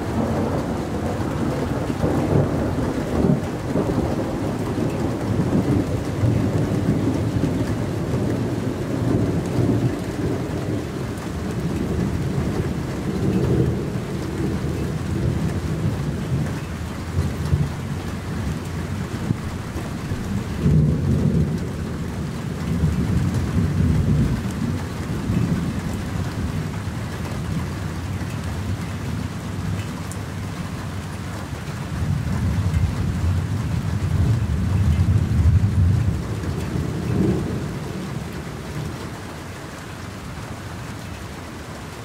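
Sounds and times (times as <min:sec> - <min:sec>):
rolling thunder: 0:00.0 - 0:31.1, 0:31.8 - 0:39.4
rain falling on water: 0:00.0 - 0:42.0.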